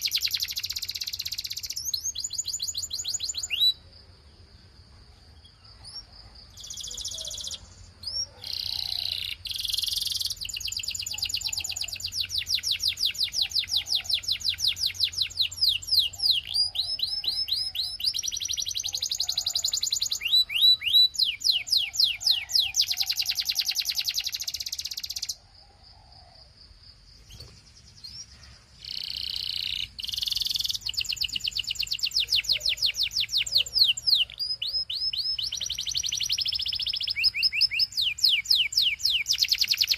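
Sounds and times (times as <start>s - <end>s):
canary singing: 0.0s - 3.9s, 5.4s - 25.4s, 27.2s - 39.9s.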